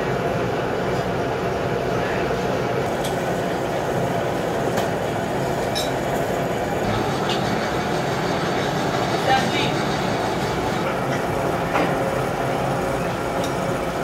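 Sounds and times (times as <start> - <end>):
gear cutting machine running: 2.8 - 14.0.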